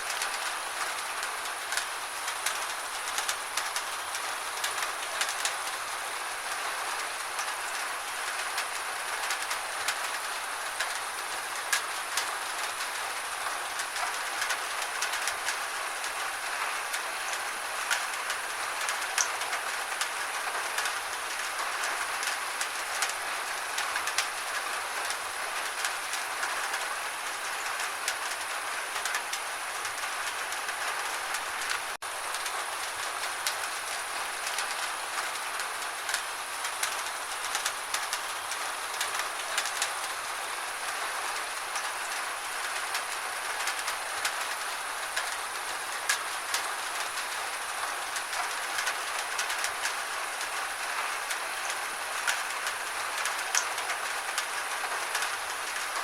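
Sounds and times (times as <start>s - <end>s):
rain hissing: 0.0s - 56.0s
raindrop ticks: 0.1s - 5.8s, 6.5s - 56.0s.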